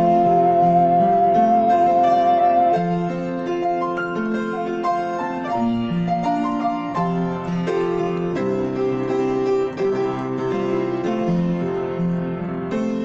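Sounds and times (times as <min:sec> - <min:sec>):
piano playing worship song: 0:00.0 - 0:13.0.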